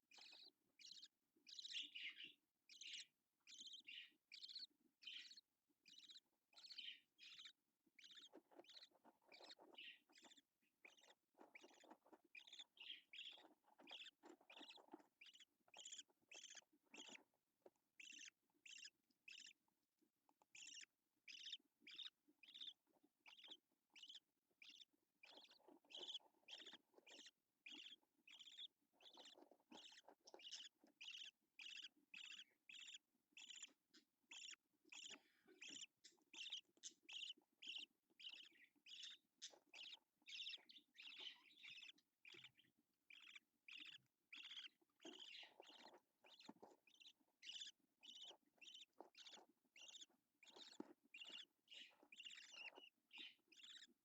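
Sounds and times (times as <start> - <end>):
budgerigar chirping: 0.1 - 19.7, 20.4 - 54.0.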